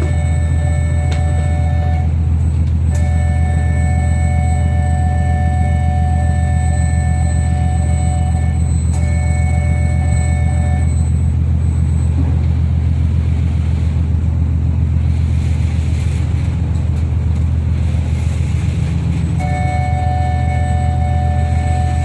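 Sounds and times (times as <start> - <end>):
ferry engines rumbling: 0.0 - 22.0.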